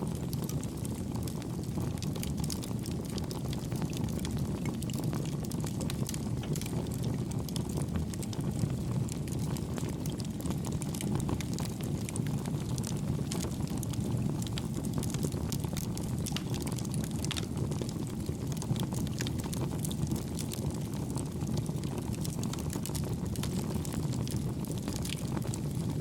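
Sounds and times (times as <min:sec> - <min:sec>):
burning wood crackling and popping: 0:00.0 - 0:26.0
campfire flames rumbling: 0:00.0 - 0:26.0.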